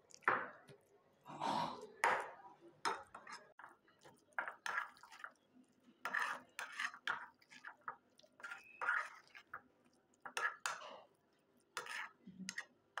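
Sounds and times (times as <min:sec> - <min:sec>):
spoon squelching wet paste: 0:00.0 - 0:01.0, 0:01.8 - 0:13.0.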